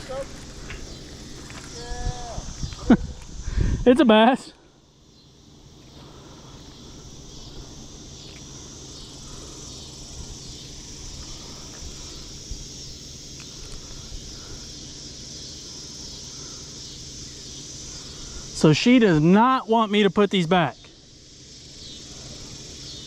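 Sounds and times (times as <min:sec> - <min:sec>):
insects shrill drone: 0:00.0 - 0:23.0.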